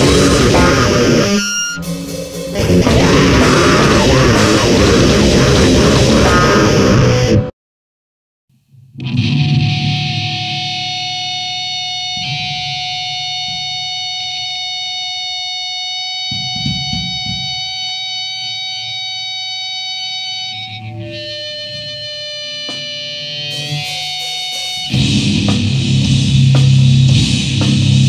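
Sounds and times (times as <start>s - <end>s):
distorted electric guitar noise: 0.0s - 7.5s, 8.6s - 28.0s.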